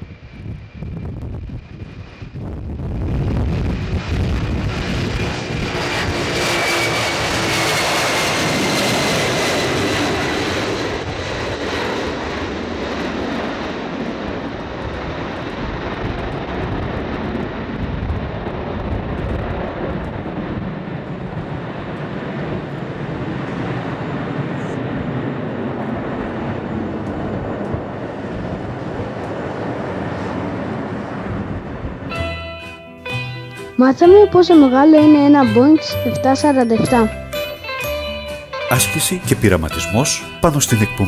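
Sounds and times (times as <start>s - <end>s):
jet airliner taking off: 0.0s - 36.0s, 37.1s - 41.0s.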